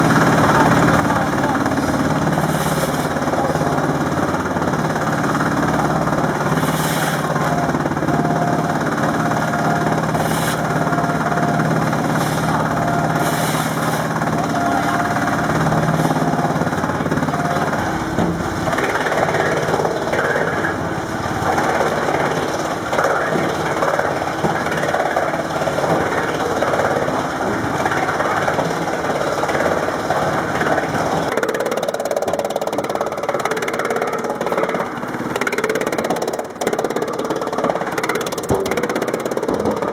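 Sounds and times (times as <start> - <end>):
wood chipper chipping wood: 0.0 - 39.9.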